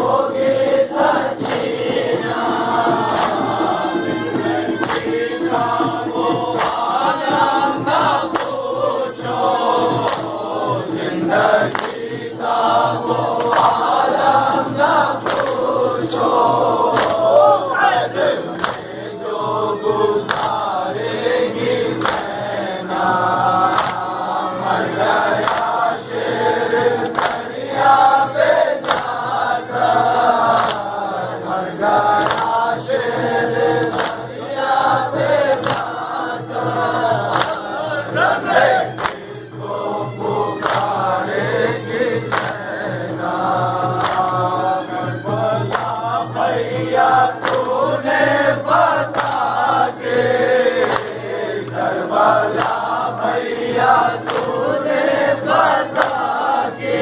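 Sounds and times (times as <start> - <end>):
men chanting in unison: 0.0 - 57.0.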